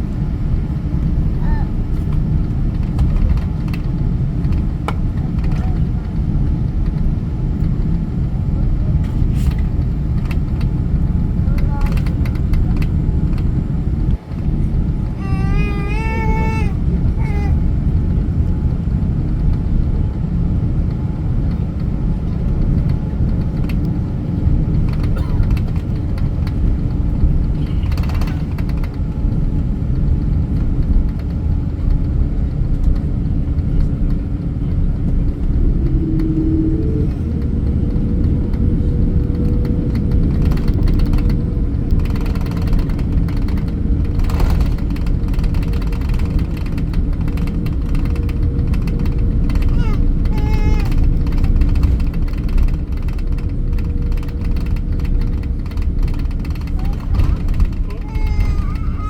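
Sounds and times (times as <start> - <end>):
faint hum: 0.0 - 59.0
jet engines rumbling in cabin: 0.0 - 59.0.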